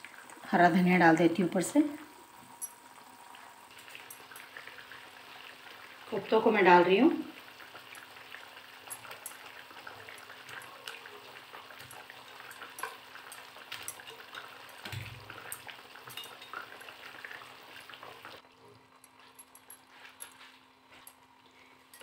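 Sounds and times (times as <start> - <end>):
gravy simmering: 0.0 - 22.0.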